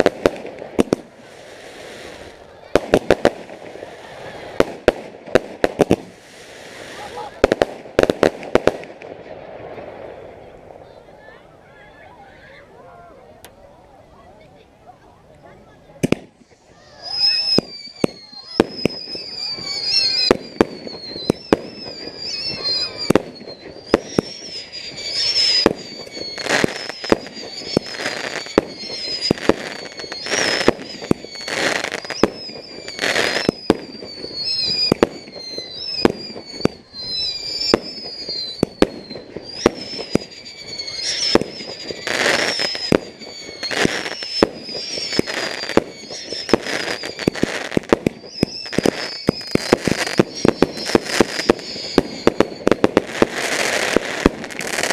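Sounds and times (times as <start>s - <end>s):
falling firework whistles: 0.0s - 9.0s, 16.0s - 54.9s
firework hissing: 0.0s - 9.0s, 16.1s - 54.9s
firework bangs and crackles: 0.0s - 11.4s, 15.6s - 54.9s.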